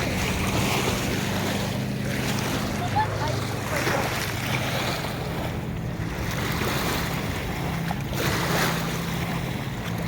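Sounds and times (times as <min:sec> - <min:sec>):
water washing at shore: 0:00.0 - 0:10.0.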